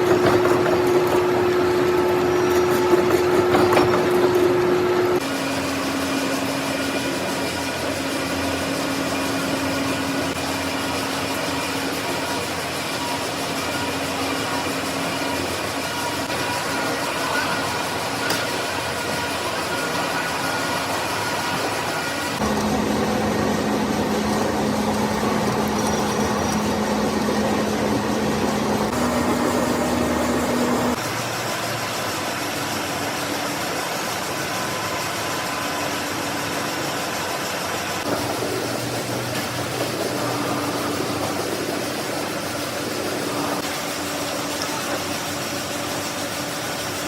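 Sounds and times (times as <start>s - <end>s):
machine-shop machinery humming: 0.0s - 47.0s.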